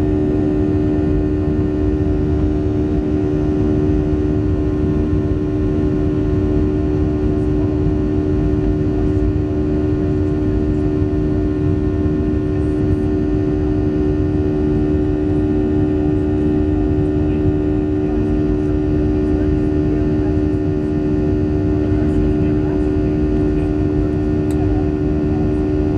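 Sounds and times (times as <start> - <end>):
jet engine drone in cabin: 0.0 - 25.9.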